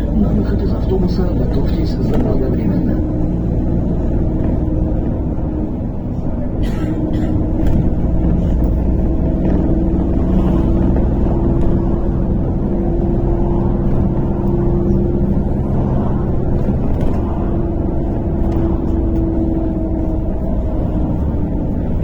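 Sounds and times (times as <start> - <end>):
bus engine and road drone: 0.0 - 22.0
faint whine: 0.0 - 22.0.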